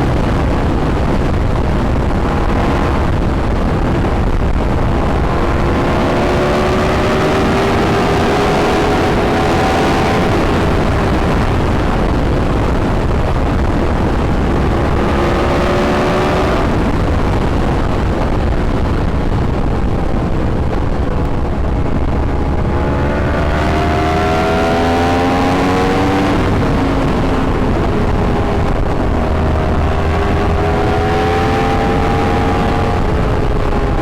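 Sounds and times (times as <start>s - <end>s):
motorcycle engine accelerating: 0.0s - 34.0s
wind rumble on microphone: 0.0s - 34.0s.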